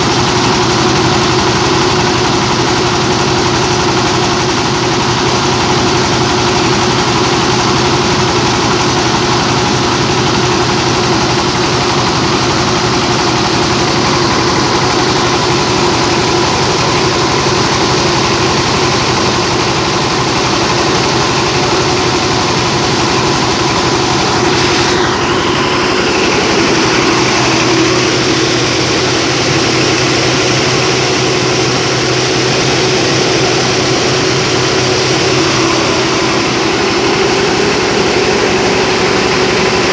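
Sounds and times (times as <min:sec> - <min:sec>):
diesel engine running: 0:00.0 - 0:39.9
rice milling machine: 0:00.0 - 0:39.9.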